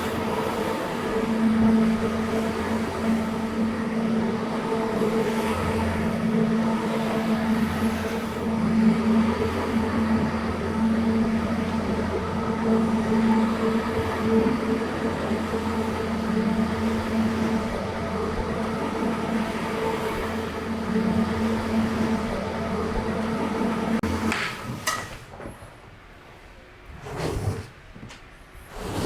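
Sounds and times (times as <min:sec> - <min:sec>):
carpet cleaning machine running: 0:00.0 - 0:24.4.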